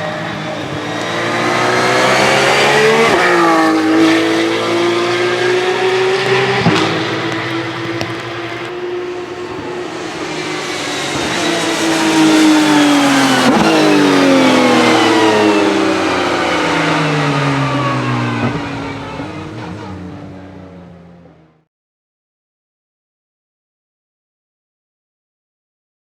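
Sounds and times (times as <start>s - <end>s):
race cars passing: 0.0s - 21.6s.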